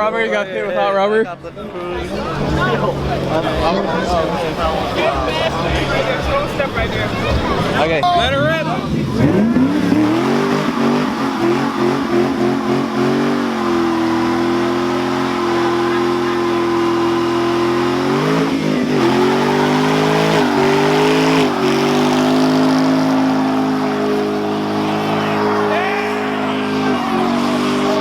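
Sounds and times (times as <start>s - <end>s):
car engine revving high: 1.4s - 28.0s.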